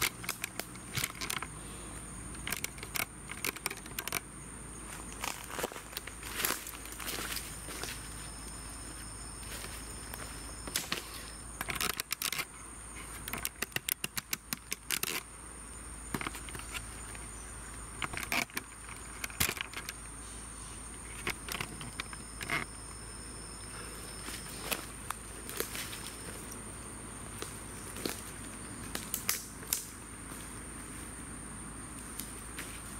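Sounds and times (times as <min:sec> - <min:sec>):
high insect drone: 0:00.0 - 0:32.9.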